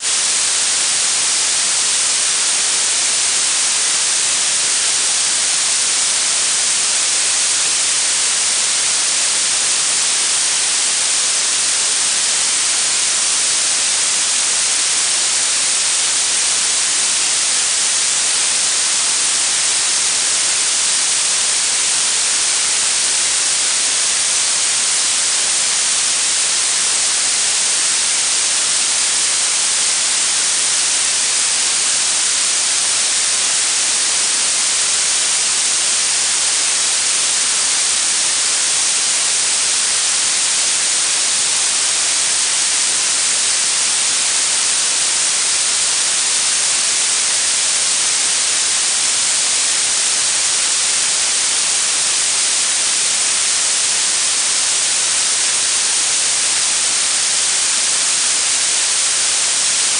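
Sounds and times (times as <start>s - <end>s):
steady synthetic high hiss: 0.0s - 59.9s.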